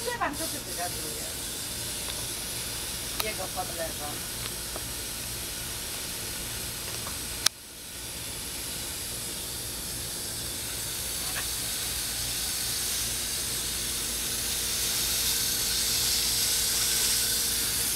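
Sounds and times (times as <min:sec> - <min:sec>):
hose nozzle spraying water: 0:00.0 - 0:17.9.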